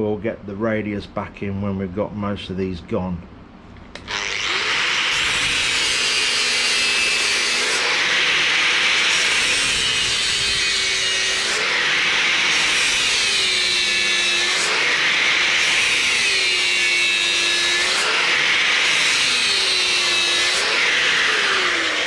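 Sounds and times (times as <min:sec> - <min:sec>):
angle grinder grinding metal: 0:04.0 - 0:22.0.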